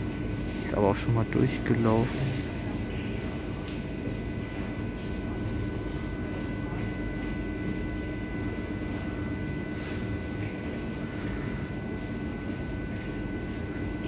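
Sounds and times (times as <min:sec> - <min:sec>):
thin electrical whine: 0:00.0 - 0:14.0.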